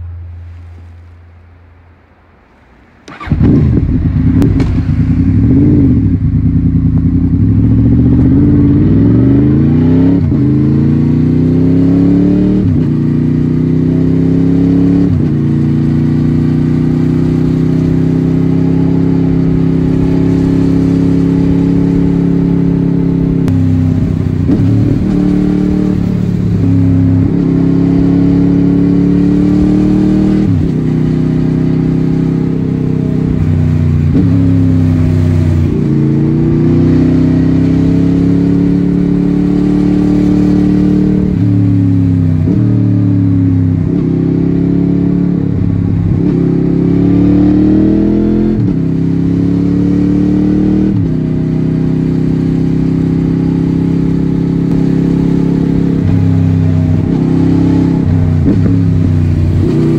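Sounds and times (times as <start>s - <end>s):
motorcycle engine accelerating and shifting: 3.0s - 59.9s.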